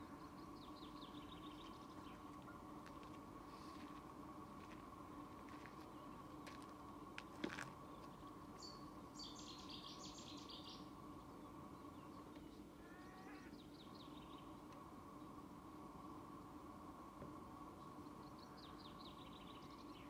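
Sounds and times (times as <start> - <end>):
faint songbird singing: 0.0 - 6.4, 7.7 - 20.0
low steady hum: 0.0 - 20.0.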